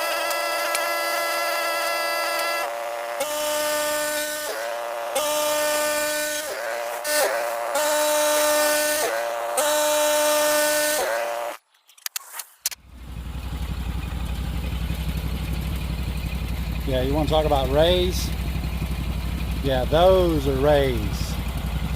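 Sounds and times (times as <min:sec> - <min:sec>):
band sawmill whine: 0:00.0 - 0:11.6, 0:13.2 - 0:21.9.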